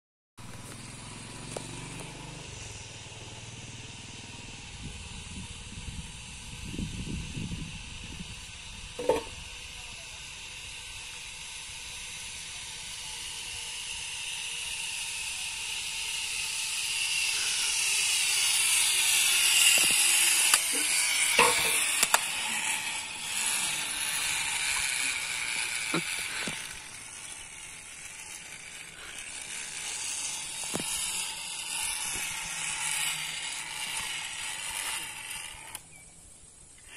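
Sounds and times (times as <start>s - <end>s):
pulley wheels whirring on cable: 0.4s - 36.9s.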